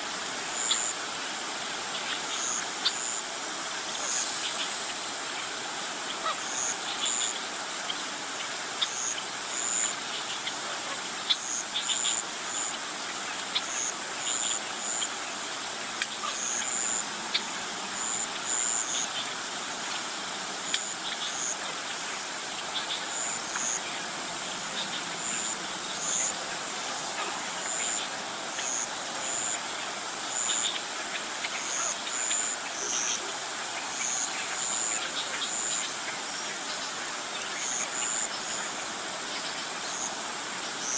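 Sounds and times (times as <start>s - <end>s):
steady high insect hiss: 0.0s - 40.9s.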